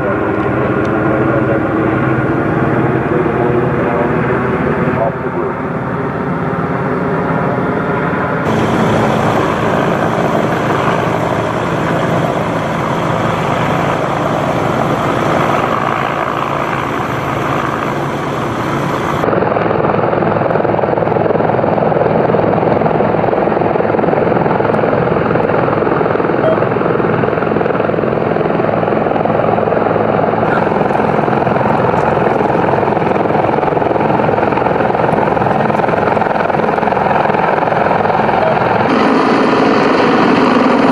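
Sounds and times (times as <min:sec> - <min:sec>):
helicopter hovering: 0:00.0 - 0:40.9.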